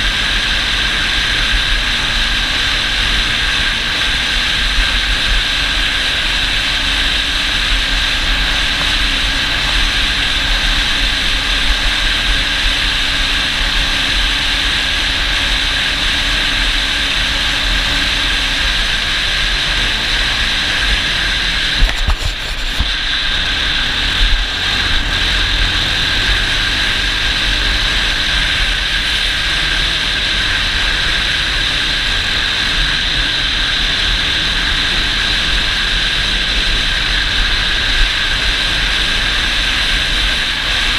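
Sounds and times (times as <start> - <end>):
atv engine drone: 0.0 - 40.9
loud rushing noise: 0.0 - 40.9.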